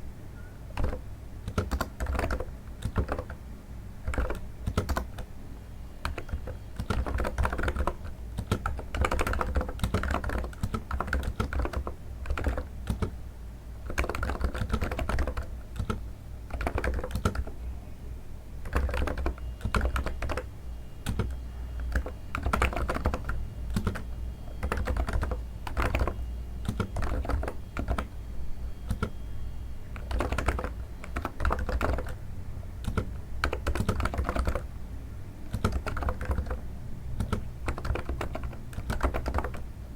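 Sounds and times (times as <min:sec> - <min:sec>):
soft keyboard typing: 0:00.4 - 0:03.4, 0:04.0 - 0:05.3, 0:06.0 - 0:13.2, 0:13.8 - 0:17.7, 0:18.6 - 0:32.2, 0:32.8 - 0:34.7, 0:35.4 - 0:39.7.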